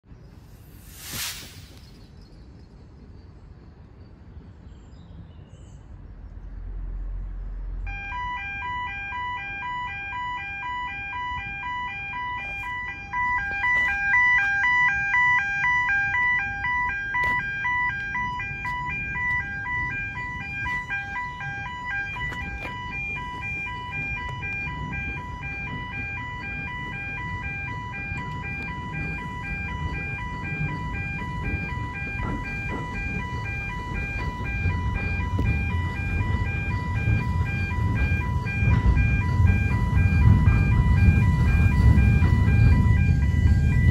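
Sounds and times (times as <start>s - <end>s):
two-tone electronic crossing alarm: 7.8s - 43.9s.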